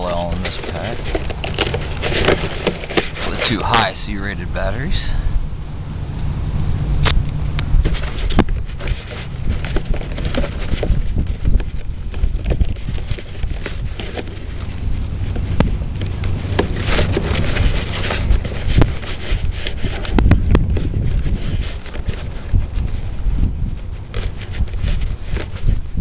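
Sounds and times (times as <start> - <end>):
handling clicks and rubbing: 0.0 - 5.1, 6.1 - 26.0
wind buffeting microphone: 0.0 - 26.0.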